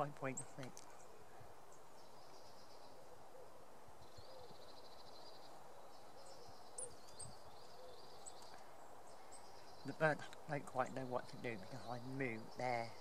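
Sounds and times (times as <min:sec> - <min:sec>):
background hiss: 0:00.0 - 0:13.0
songbirds trilling: 0:00.0 - 0:13.0.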